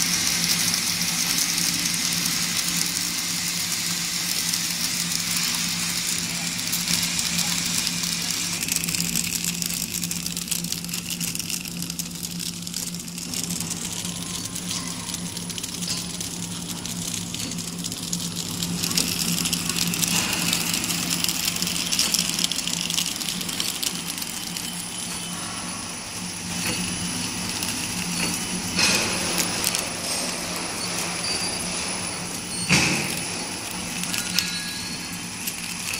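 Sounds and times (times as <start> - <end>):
machine motor hum: 0.0 - 35.9
mechanism clicking and rattling: 0.0 - 35.9.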